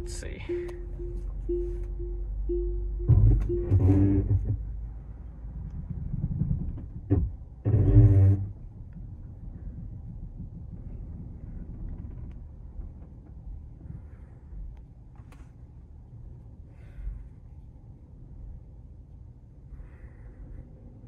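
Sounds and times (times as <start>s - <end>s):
low steady car cabin rumble: 0.0s - 21.0s.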